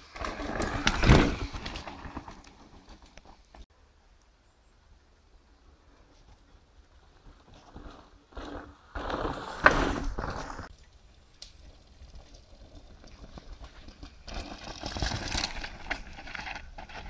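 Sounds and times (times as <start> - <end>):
bike rattling: 0.0 - 3.6, 6.1 - 17.0
tyres skidding on soil and stones: 0.0 - 3.6, 6.8 - 17.0.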